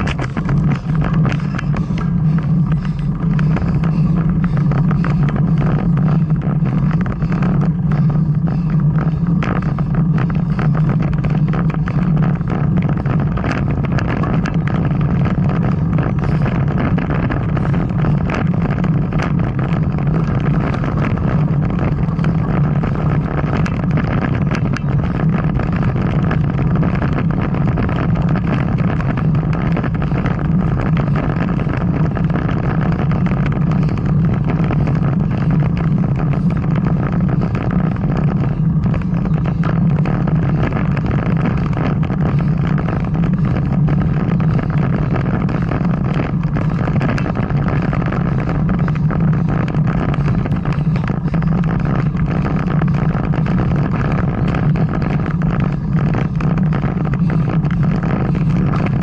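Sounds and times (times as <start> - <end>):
bicycle tyre rumble: 0.0 - 59.0
wind noise: 0.0 - 59.0.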